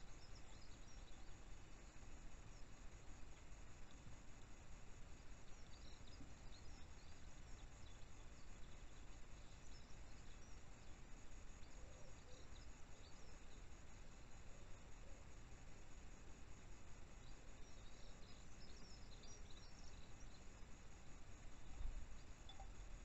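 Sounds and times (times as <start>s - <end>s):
distant small birds chirping: 0.0s - 23.0s
steady low hiss: 0.0s - 23.0s.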